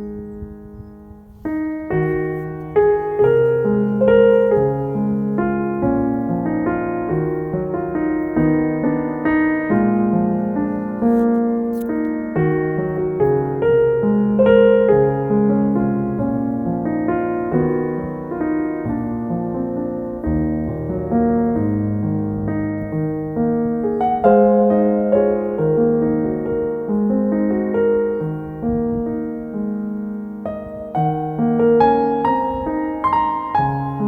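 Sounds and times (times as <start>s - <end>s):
solo piano music: 0.0s - 34.0s.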